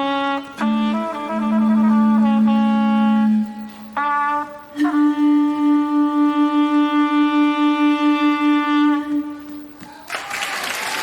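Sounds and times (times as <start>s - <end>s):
wind instruments holding a note: 0.0s - 10.0s.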